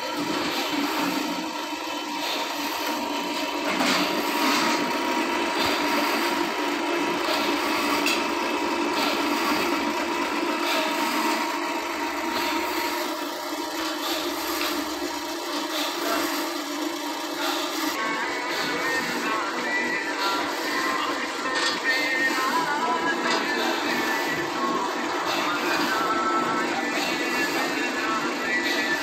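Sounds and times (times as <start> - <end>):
machine motor hum with whine: 0.0 - 29.0.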